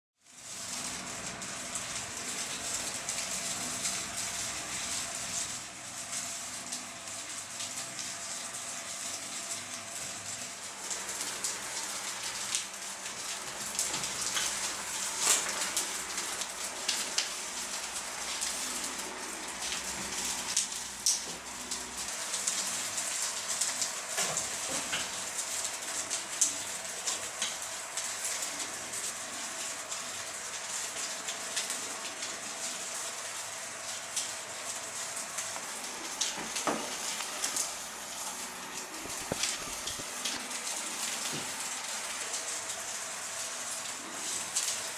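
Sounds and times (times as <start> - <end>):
fan hiss: 0.2 - 44.9
ribbons fluttering in fan airflow: 0.2 - 44.9.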